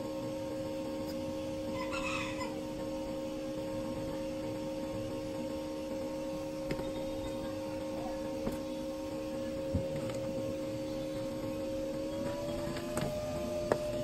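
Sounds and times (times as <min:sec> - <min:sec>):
hum of two held tones: 0:00.0 - 0:14.0.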